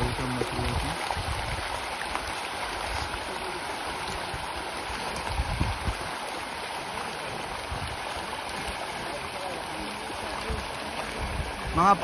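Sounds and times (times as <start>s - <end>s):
fish splashing water: 0.0s - 11.7s.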